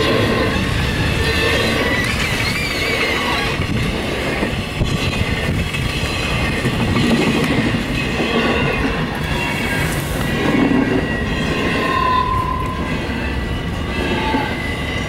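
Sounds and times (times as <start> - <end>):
freight train rolling past: 0.0 - 15.0
wheels clacking over rail joints: 0.0 - 15.0.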